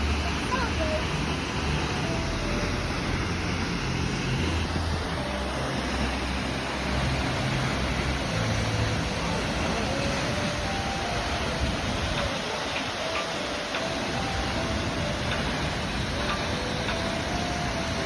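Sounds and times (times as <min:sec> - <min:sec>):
waterfall roar: 0:00.0 - 0:18.0.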